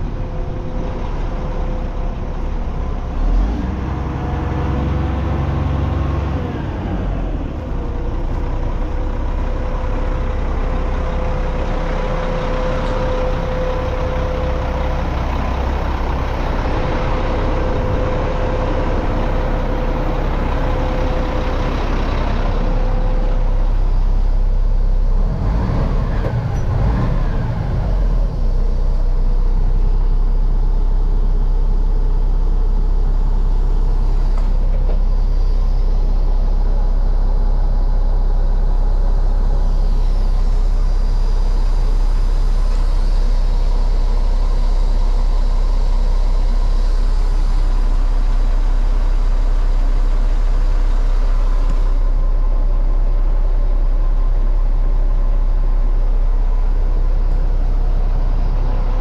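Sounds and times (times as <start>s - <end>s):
steady whine: 0.0s - 25.4s, 26.0s - 59.0s
diesel engine idling: 0.0s - 59.0s.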